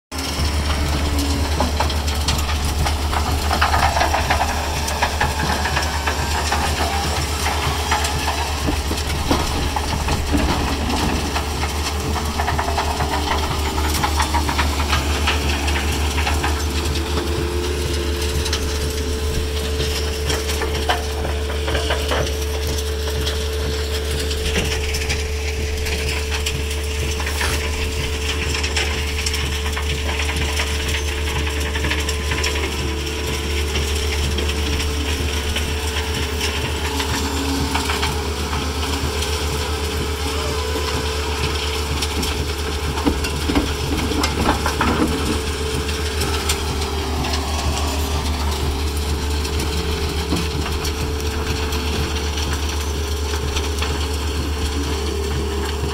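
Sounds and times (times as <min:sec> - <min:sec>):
diesel engine drone: 0:00.0 - 0:55.9
steady machine whine: 0:00.1 - 0:55.9.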